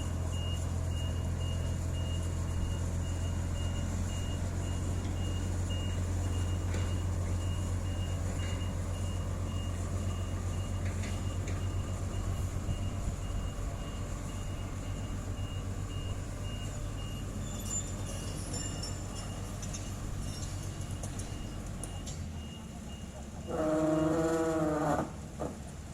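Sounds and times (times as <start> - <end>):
heavy diesel engine running: 0.0 - 25.9
reversing alarm beeping: 0.1 - 25.0.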